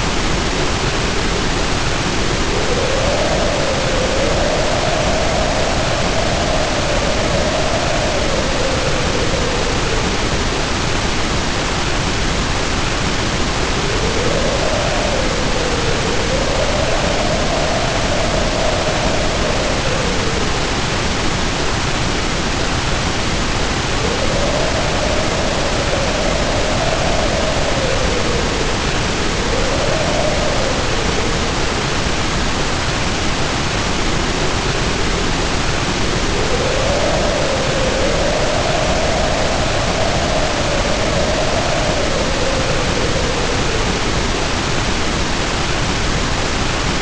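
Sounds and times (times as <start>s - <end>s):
heavy rain pouring: 0.0s - 47.0s
wind howling: 0.0s - 47.0s.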